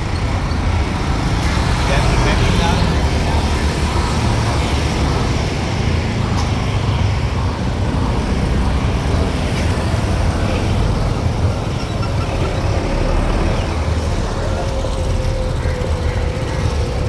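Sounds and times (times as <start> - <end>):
motor vehicle rumbling: 0.0 - 17.0.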